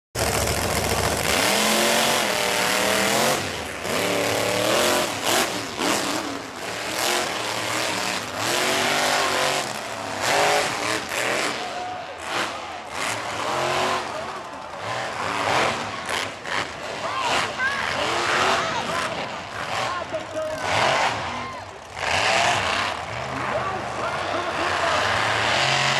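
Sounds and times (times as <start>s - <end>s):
monster truck engine revving: 0.2s - 25.9s.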